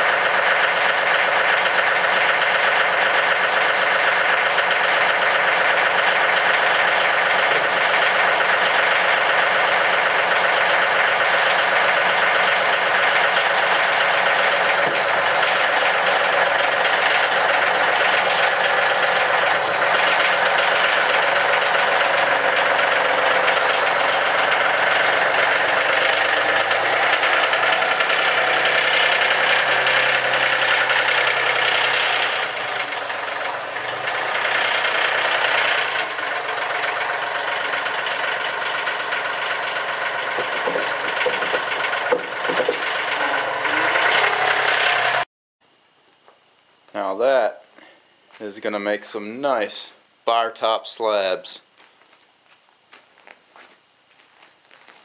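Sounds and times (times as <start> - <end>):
tractor diesel engine knocking: 0.0 - 45.2.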